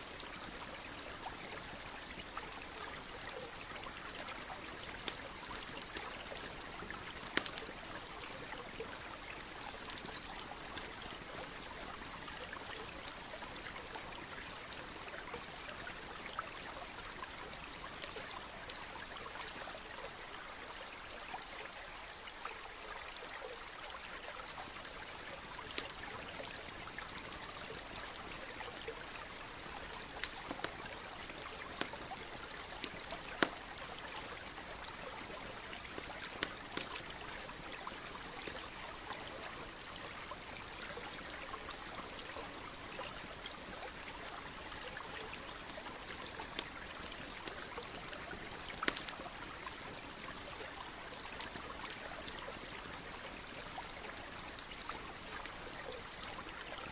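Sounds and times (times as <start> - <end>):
campfire popping and crackling: 0.0 - 20.2, 24.3 - 56.9
stream trickling: 0.0 - 56.9.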